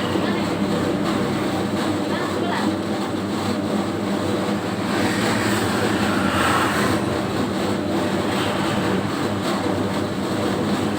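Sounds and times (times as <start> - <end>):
dough mixer humming and whirring: 0.0 - 10.9.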